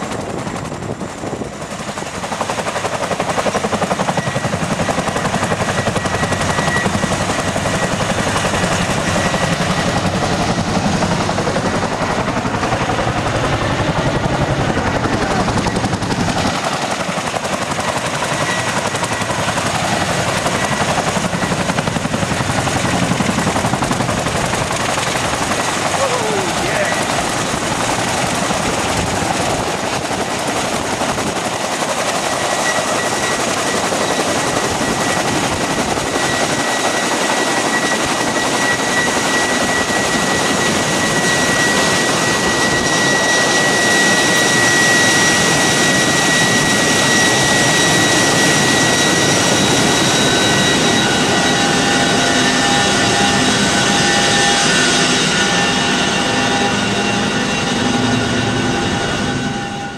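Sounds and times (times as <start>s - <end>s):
helicopter turbine and rotors: 0.0s - 59.9s.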